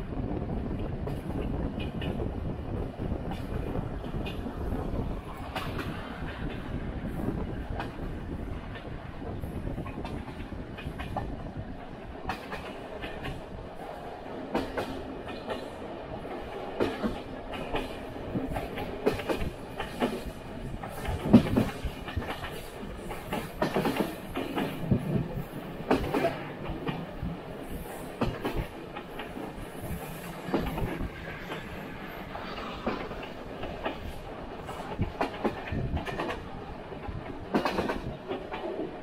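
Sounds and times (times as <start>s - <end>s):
train clacks and knocks: 0.0s - 39.0s
train wheels rumbling on rails: 0.0s - 39.0s.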